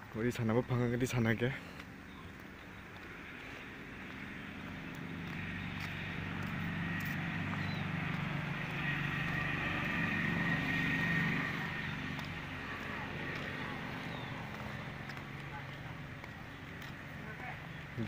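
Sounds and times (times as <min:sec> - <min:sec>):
tyre and road noise: 0:00.0 - 0:18.0
vehicle engine hum: 0:00.0 - 0:18.0.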